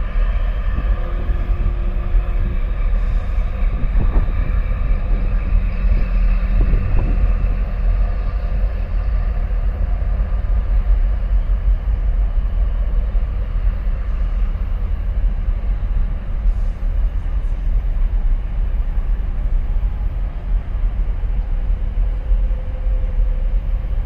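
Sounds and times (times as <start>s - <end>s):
faint engine hum: 0.0s - 24.0s
ship low rumble: 0.0s - 24.0s
wind buffeting microphone: 0.0s - 24.0s.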